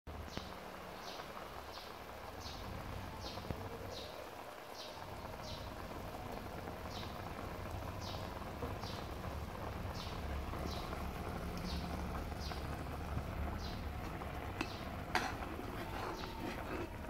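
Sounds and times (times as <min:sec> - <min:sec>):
liquid simmering in a wok: 0:00.1 - 0:17.0.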